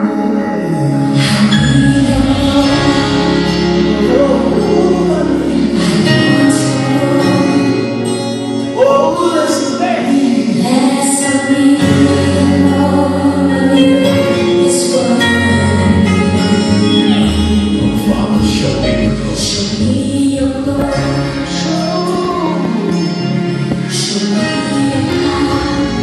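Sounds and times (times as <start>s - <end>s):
band playing: 0.0s - 26.0s
choir singing gospel: 0.0s - 26.0s.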